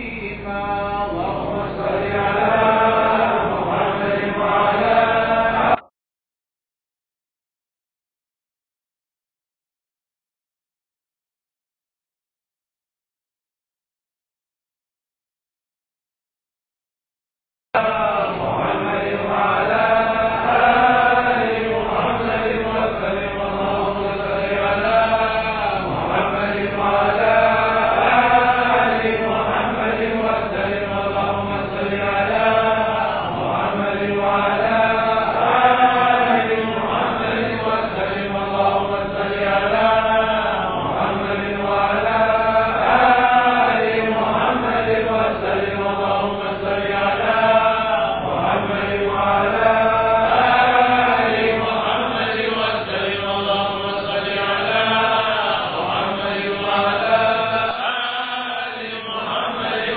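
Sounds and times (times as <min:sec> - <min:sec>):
congregation chanting: 0:00.0 - 0:05.9, 0:17.8 - 0:59.9.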